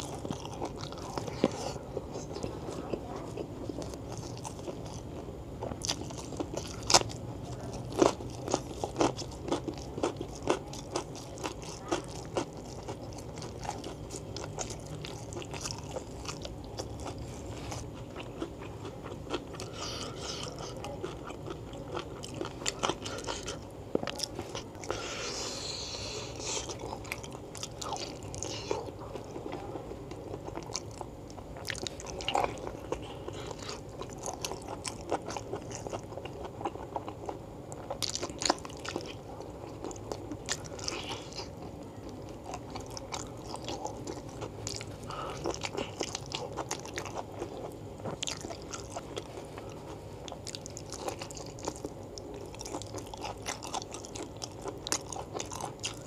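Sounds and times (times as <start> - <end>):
close chewing with mouth clicks: 0.0 - 56.0.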